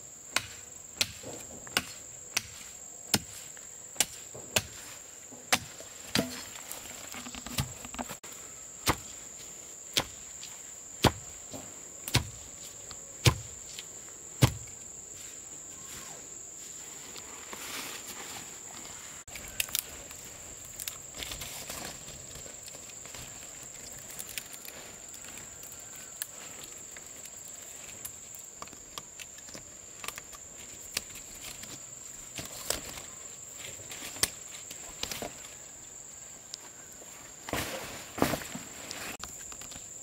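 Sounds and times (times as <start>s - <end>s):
insect chorus: 0.0s - 40.0s.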